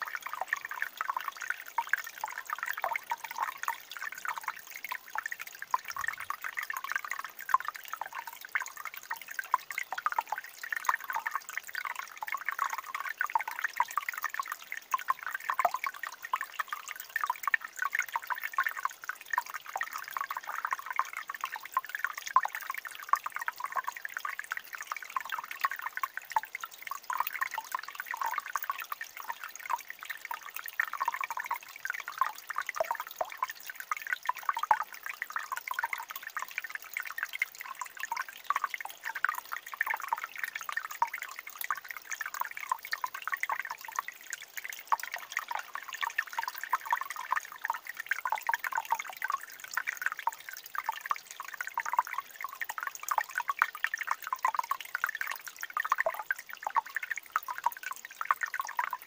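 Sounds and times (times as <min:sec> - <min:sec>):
stream trickling over rocks: 0:00.0 - 0:59.0.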